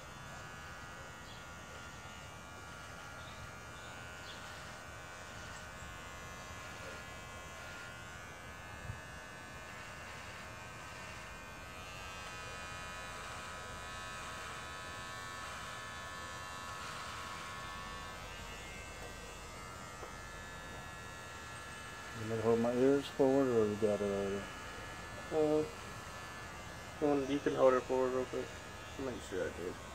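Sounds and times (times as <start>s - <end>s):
electric hair clippers buzzing: 0.0s - 29.9s.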